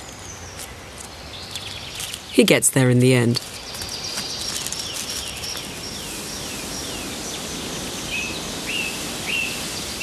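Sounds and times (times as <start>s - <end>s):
birds chirping: 0.2s - 10.0s.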